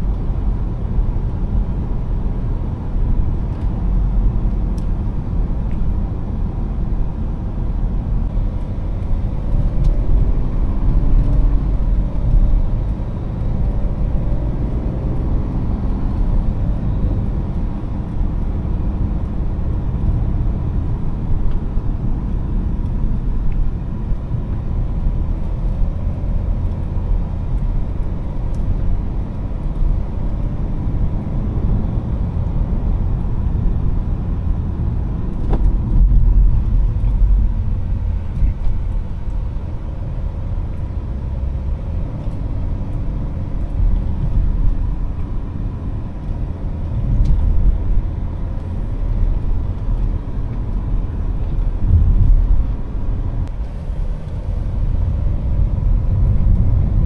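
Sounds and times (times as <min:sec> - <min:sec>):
diesel car engine drone: 0:00.0 - 0:57.0
tyre and road rumble: 0:00.0 - 0:57.0.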